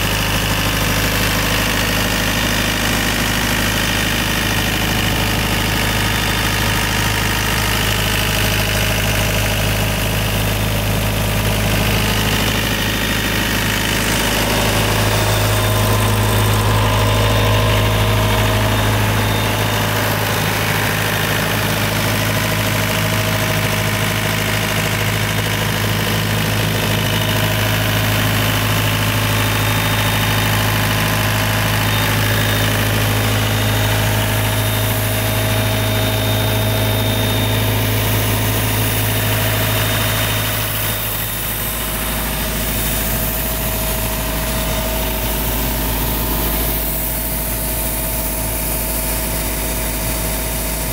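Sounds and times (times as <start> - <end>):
diesel air compressor running: 0.0 - 50.9.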